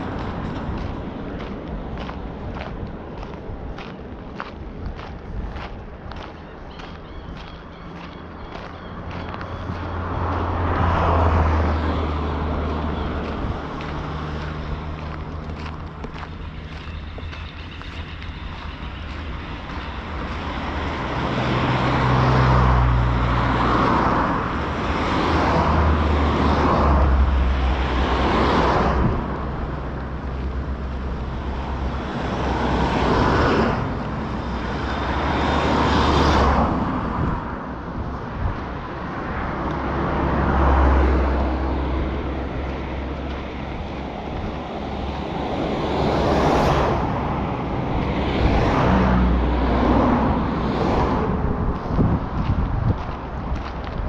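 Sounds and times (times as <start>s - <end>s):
low traffic rumble: 0.0s - 54.0s
vehicles passing: 0.0s - 54.0s.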